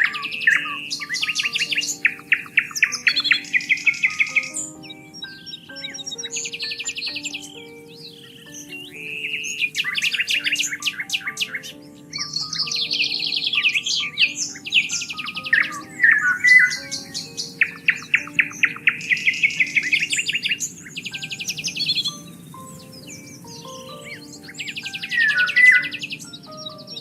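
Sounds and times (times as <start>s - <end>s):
soft background music: 0.0s - 27.0s
songbirds trilling and chirping: 0.0s - 27.0s.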